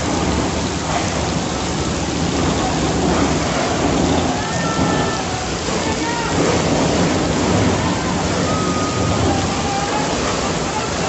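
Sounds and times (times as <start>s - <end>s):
floodwater rushing: 0.0s - 11.0s
heavy rain pouring: 0.0s - 11.0s.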